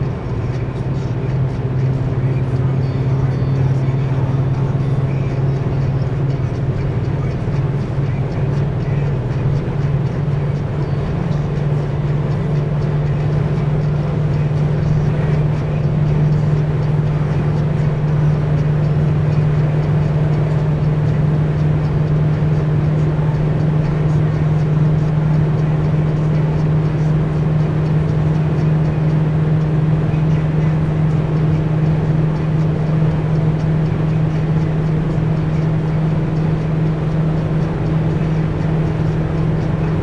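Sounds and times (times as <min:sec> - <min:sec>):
car engine hum inside cabin: 0:00.0 - 0:40.0
tyre and road noise: 0:00.0 - 0:40.0.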